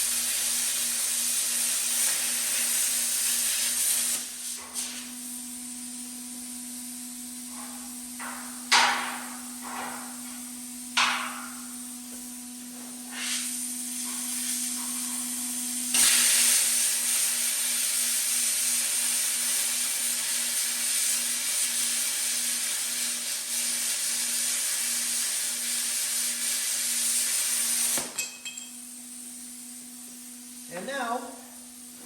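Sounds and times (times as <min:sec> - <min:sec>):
plasma cutter hissing: 0:00.0 - 0:28.2.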